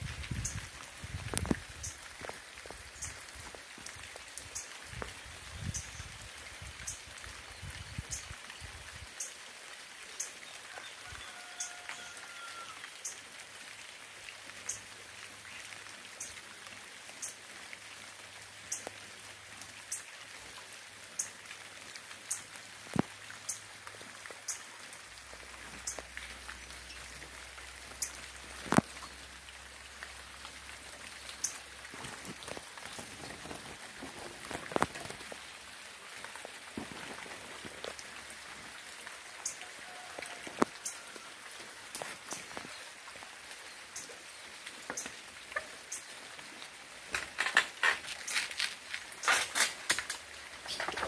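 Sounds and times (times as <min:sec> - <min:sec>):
large raindrops ticking: 0:00.0 - 0:51.0
steady rain falling: 0:00.0 - 0:51.0.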